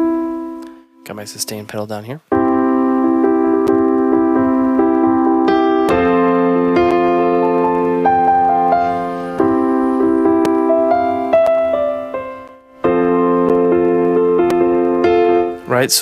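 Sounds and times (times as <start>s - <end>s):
piano chords and melody: 0.0s - 16.0s.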